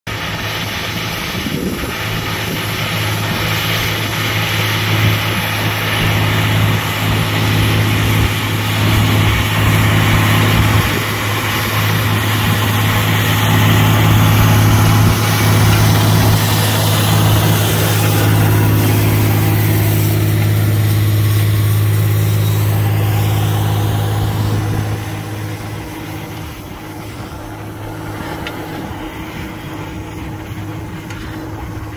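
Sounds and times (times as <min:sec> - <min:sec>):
cultivator hissing and rattling: 0:00.1 - 0:31.9
tractor engine running under load: 0:00.1 - 0:31.9.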